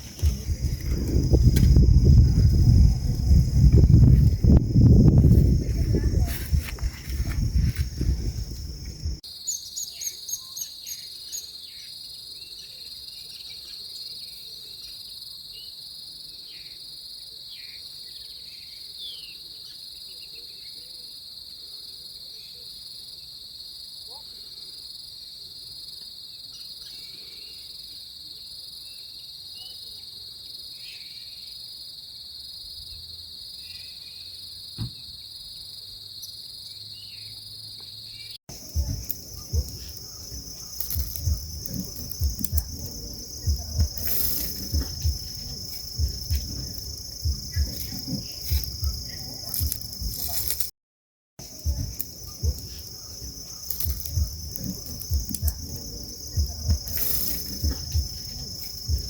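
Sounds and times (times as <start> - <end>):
insects trilling: 0.0 - 50.7, 51.4 - 59.0.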